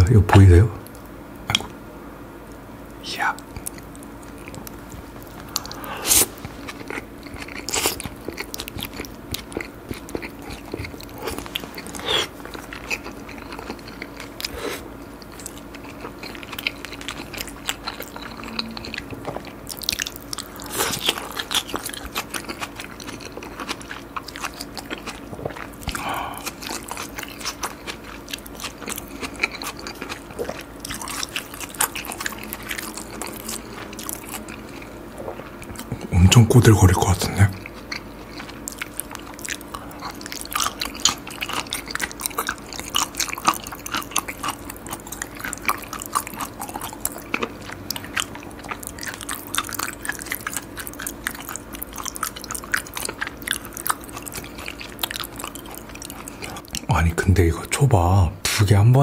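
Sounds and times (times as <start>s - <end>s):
close chewing with mouth clicks: 3.3s - 56.9s.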